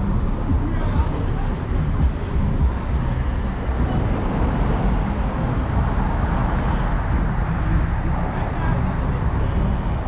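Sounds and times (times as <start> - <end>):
street and vehicle rumble: 0.0 - 10.0.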